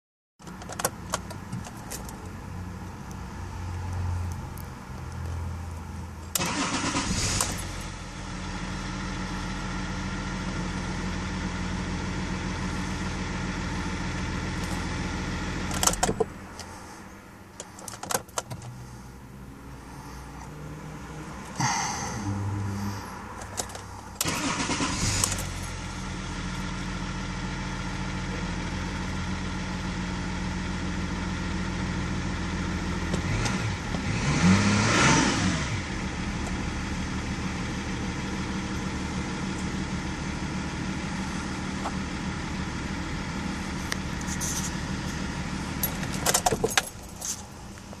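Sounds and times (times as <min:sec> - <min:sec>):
diesel engine starting and idling: 0:03.3 - 0:48.0.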